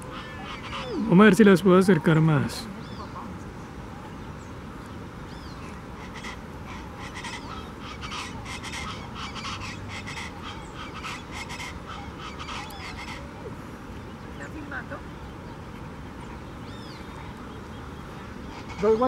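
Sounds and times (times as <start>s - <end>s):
birds calling harshly: 0.0s - 19.0s.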